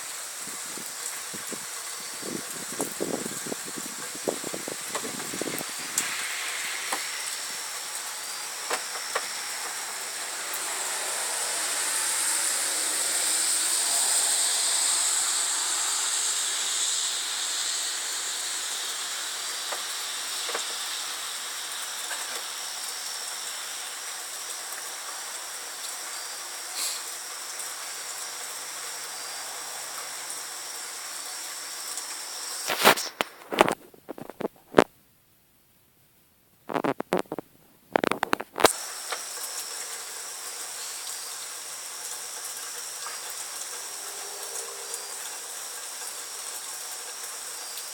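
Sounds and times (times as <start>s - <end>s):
rain hissing: 0.0s - 34.9s, 36.6s - 47.9s.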